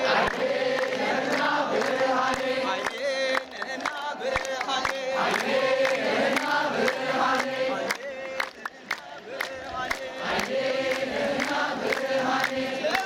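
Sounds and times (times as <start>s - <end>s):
crowd chanting a hymn: 0.0s - 13.0s.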